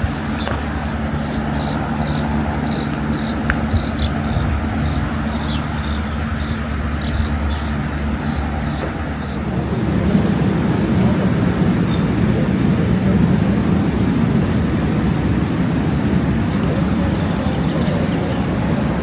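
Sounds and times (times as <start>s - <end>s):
engine idling hum: 0.0s - 19.0s.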